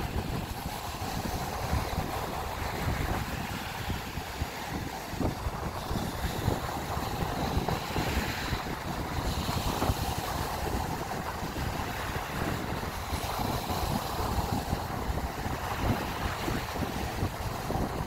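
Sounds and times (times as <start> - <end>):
waves breaking on a beach: 0.0 - 18.0
wind buffeting the microphone: 0.0 - 18.0.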